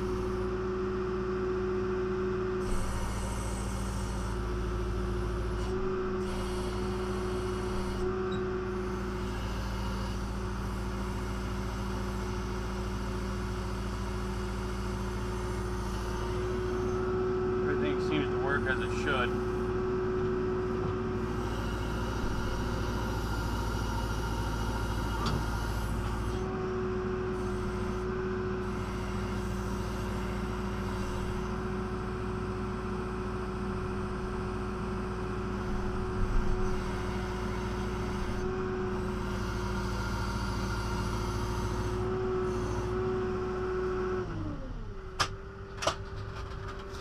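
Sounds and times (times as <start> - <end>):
diesel engine running with whine: 0.0 - 47.0.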